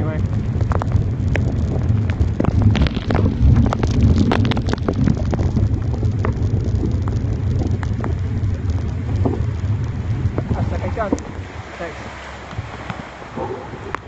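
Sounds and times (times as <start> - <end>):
rain ticking on phone case: 0.0 - 13.3
wind buffeting microphone: 0.0 - 14.0.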